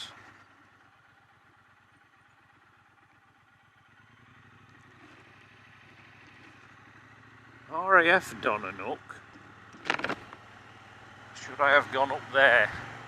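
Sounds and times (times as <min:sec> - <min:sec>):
faint motorcycle engine running: 0:00.0 - 0:13.0.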